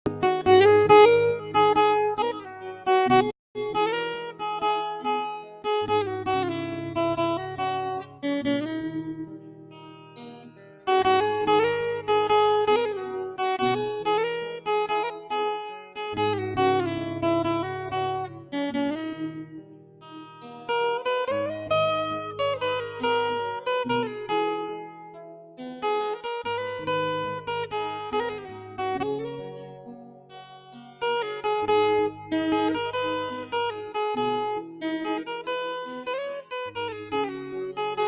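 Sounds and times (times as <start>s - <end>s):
acoustic guitar music: 0.0s - 38.0s.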